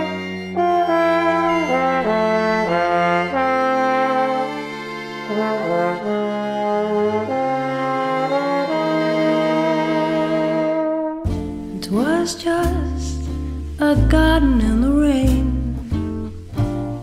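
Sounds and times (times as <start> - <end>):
trombone playing slow melody: 0.0 - 13.7
held string chords: 0.0 - 17.0.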